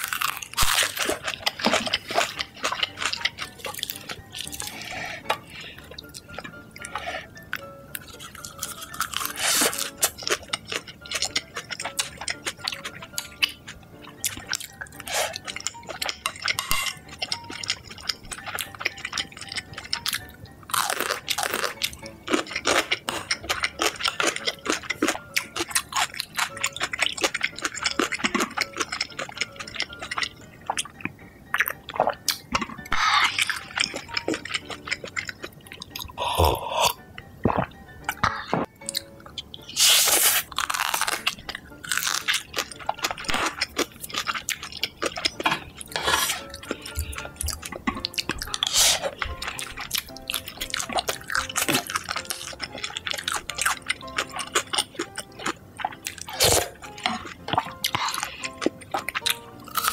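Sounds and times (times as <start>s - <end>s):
person chewing and crunching food: 0.0s - 59.9s
wet eating sounds: 0.0s - 59.9s.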